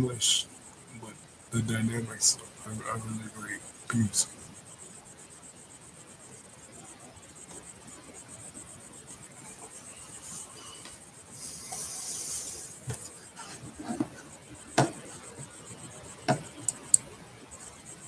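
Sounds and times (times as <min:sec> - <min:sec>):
rubbing hiss on microphone: 0:00.0 - 0:18.0.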